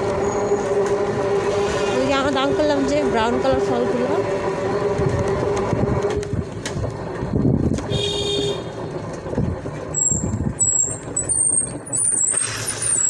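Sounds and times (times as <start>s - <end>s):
vehicle rumbling on a road: 0.0s - 13.0s.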